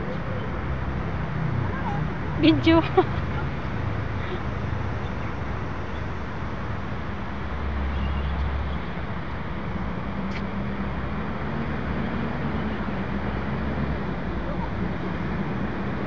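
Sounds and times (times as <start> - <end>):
road traffic roar: 0.0 - 16.0.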